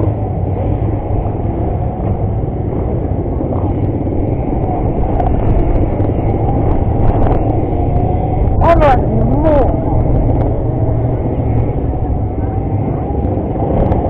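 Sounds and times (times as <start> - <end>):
dirt bike engine low rumble: 0.0 - 14.0.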